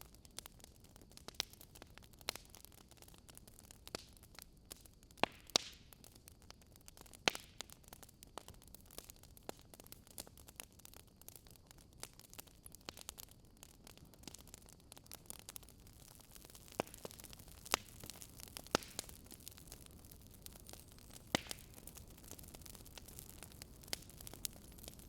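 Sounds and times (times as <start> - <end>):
faint steady hiss: 0.0 - 25.0
wood fire crackling and popping: 0.0 - 25.0.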